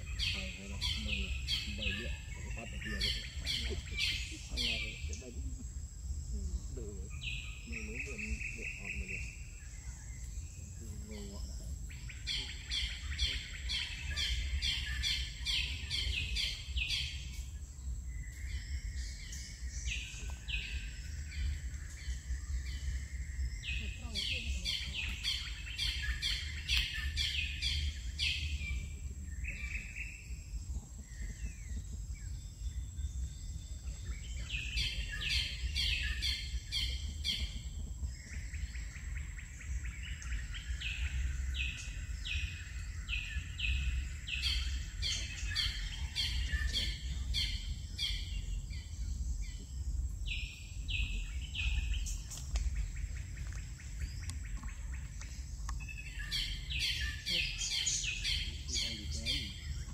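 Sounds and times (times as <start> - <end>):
low rumble: 0.0 - 56.8
birds chirping: 0.0 - 59.9.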